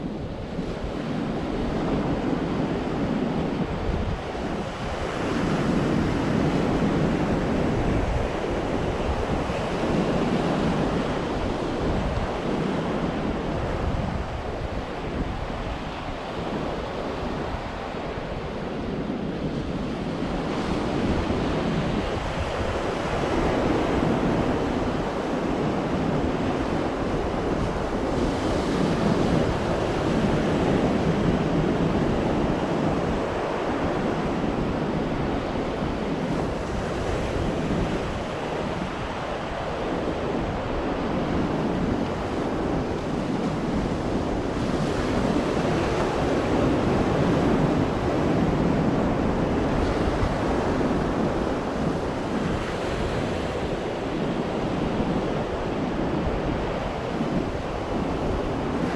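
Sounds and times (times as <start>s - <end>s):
ocean surf breaking: 0.0s - 58.9s
wind buffeting microphone: 0.0s - 58.9s.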